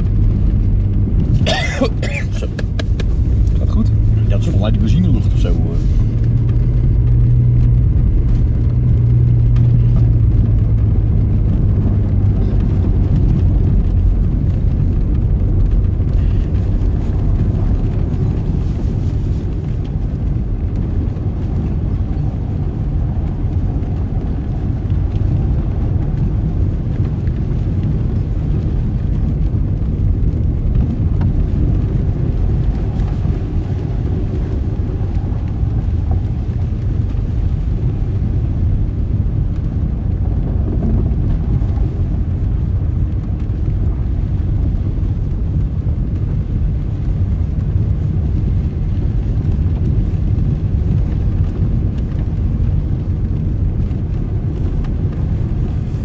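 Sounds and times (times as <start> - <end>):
engine and tyre rumble: 0.0 - 56.0.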